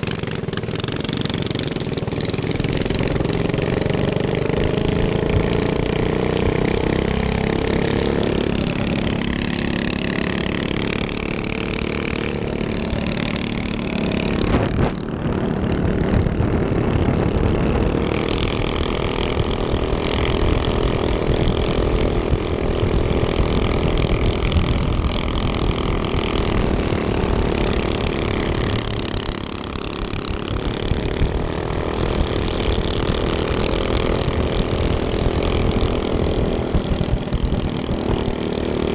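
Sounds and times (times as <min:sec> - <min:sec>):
minibike engine revving: 0:00.0 - 0:38.9.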